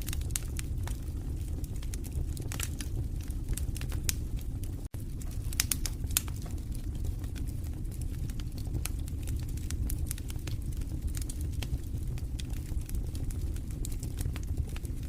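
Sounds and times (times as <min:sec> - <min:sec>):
low rumble of burning: 0:00.0 - 0:15.0
wood fire crackling and popping: 0:00.0 - 0:15.0.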